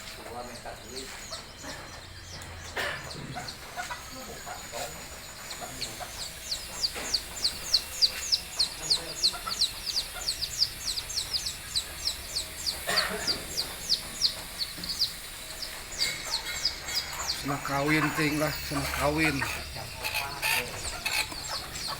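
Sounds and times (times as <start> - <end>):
chick peeping: 0.0 - 21.9.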